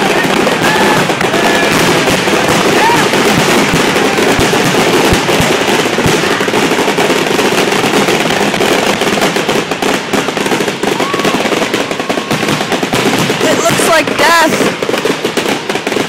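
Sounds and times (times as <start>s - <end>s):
fireworks bursting and crackling: 0.0s - 16.0s
heavy firework booms: 0.0s - 16.0s.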